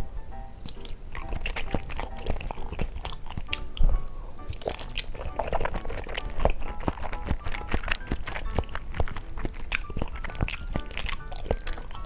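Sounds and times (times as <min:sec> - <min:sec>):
soft background music: 0:00.0 - 0:12.0
chewing jelly with clicks: 0:00.6 - 0:12.0.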